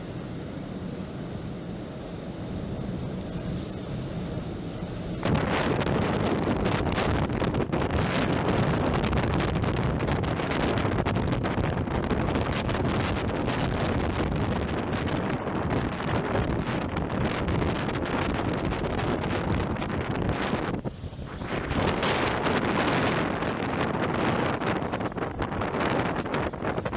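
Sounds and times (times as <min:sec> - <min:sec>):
wind gusting over microphone: 0:00.0 - 0:26.9.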